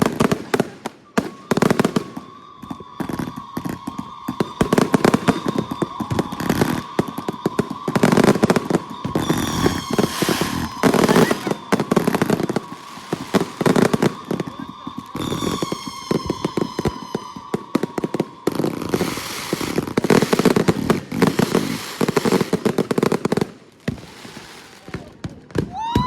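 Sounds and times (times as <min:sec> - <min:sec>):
firework crackle: 0:00.0 - 0:26.0
fireworks bangs and cracks: 0:00.0 - 0:26.0.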